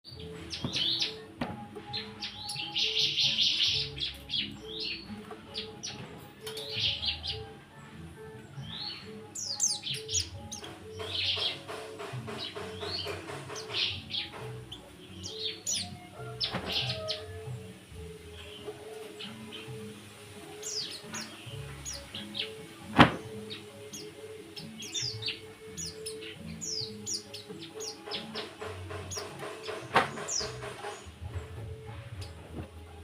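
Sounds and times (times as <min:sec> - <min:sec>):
birds chirping and trilling: 0:00.0 - 0:33.0
music playing: 0:00.0 - 0:33.0.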